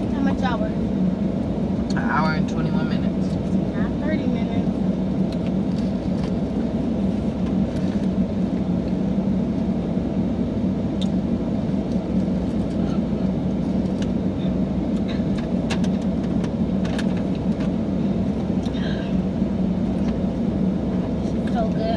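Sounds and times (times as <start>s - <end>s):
car cabin road rumble: 0.0s - 21.9s.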